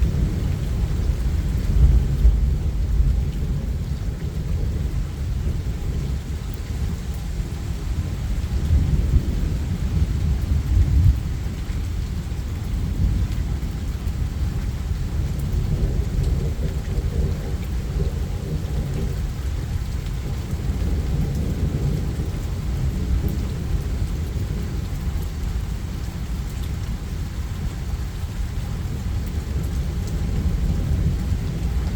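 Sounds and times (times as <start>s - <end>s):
rolling thunder: 0.0s - 27.1s, 28.8s - 31.9s
steady rain: 0.0s - 31.9s.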